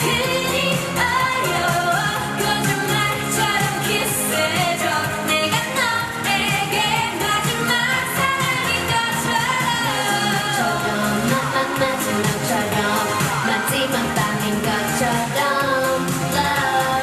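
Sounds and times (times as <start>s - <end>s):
person singing: 0.0s - 17.0s
pop backing track with bass: 0.0s - 17.0s.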